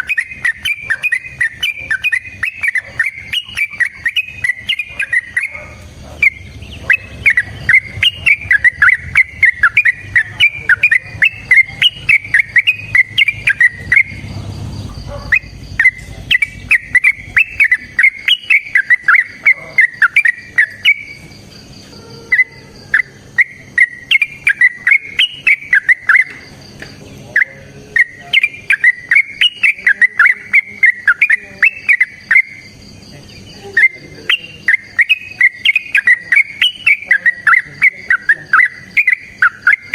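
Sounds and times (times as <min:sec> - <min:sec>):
bird singing chattering whistled notes: 0:00.0 - 0:39.9.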